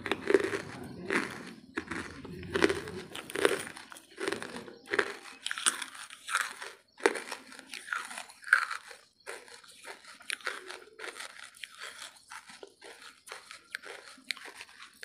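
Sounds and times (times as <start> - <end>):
crunchy chewing of charcoal: 0.0 - 15.0.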